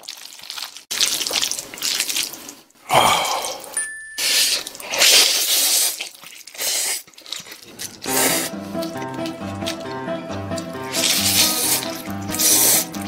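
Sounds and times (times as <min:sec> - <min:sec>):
noodles being slurped: 0:00.0 - 0:13.0.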